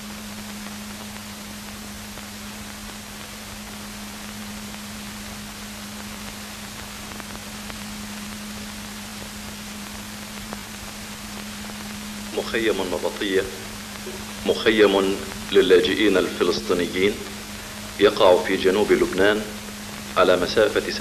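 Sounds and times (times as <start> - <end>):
film soundtrack hiss: 0.0 - 21.0
low even hum: 0.0 - 21.0.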